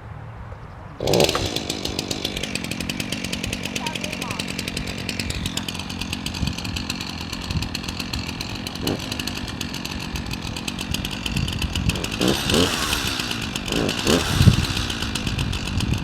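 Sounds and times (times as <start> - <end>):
chainsaw engine running: 1.0 - 16.0.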